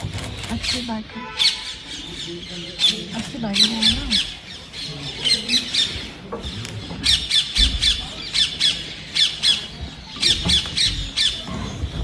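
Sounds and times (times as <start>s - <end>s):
birds giving sharp high calls: 0.3s - 12.0s.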